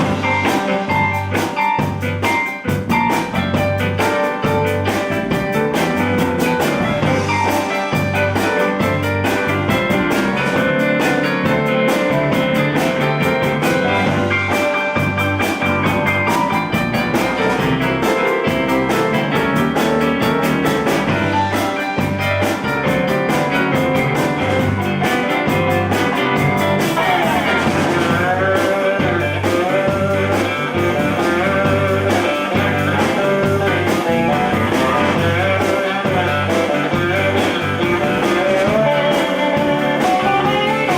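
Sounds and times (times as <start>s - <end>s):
blues band playing: 0.0s - 40.9s
lead guitar: 0.0s - 40.9s.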